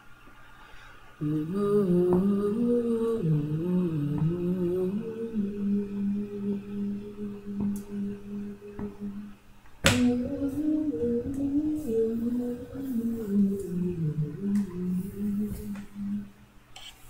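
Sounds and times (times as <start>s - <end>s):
layered female vocals: 1.2s - 16.5s.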